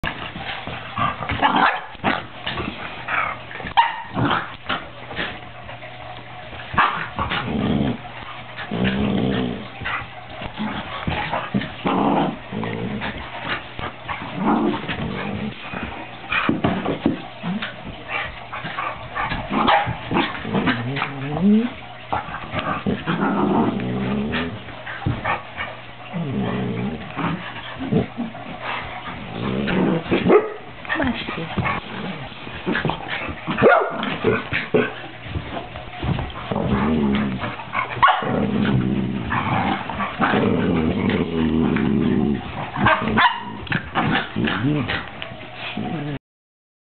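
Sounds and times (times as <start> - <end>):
dogs scuffling: 0.0 - 46.0
dogs growling: 0.0 - 46.2.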